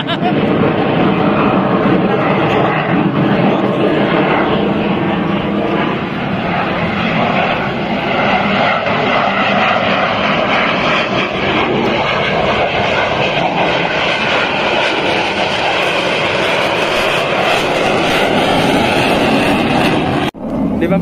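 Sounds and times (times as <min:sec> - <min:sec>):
jet aircraft flying overhead: 0:00.0 - 0:21.0.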